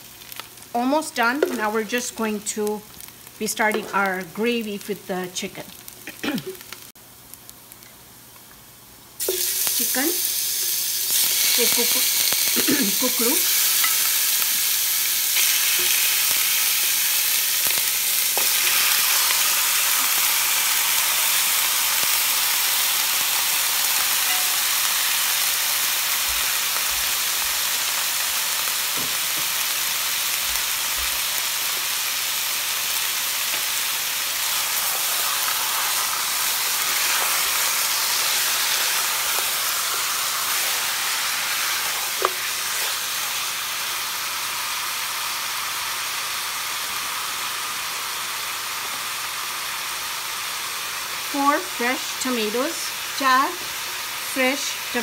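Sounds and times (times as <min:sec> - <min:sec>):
chicken sizzling in hot oil: 0:00.0 - 0:55.0.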